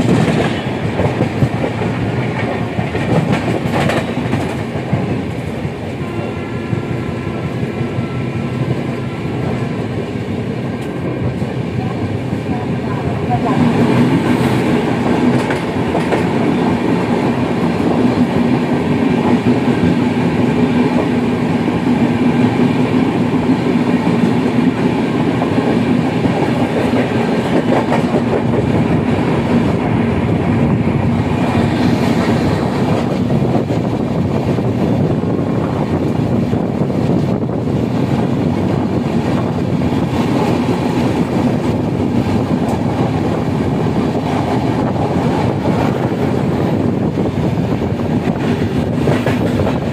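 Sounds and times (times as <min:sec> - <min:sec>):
clickety-clack over rail joints: 0:00.0 - 0:06.8, 0:08.6 - 0:49.9
train wheels rushing on rails: 0:00.0 - 0:49.9.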